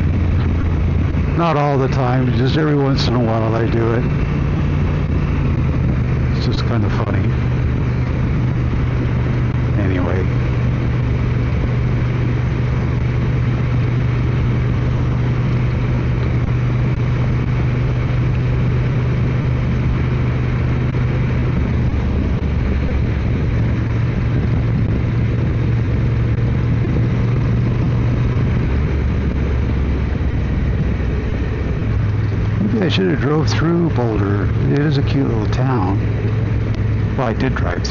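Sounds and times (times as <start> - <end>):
motorcycle engine cruising: 0.0 - 37.9
wind noise: 0.0 - 37.9.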